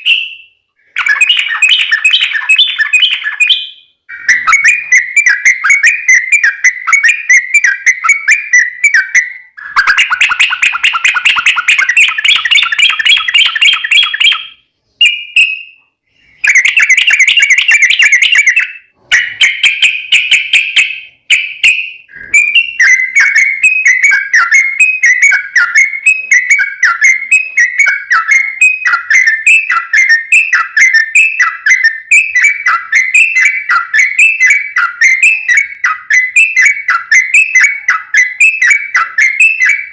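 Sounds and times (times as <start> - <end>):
bird chattering whistled song: 0.0 - 39.9.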